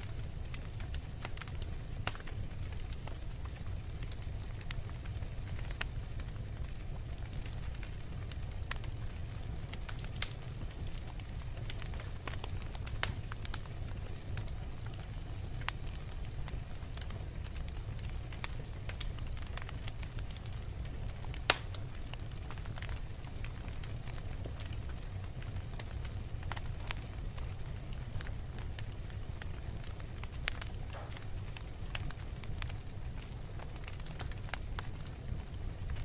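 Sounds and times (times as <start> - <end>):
logs crackling in fireplace: 0.0 - 36.0
low rumble of flame: 0.0 - 36.0
sharp fire pops: 4.3 - 16.3, 16.9 - 27.0, 28.2 - 36.0.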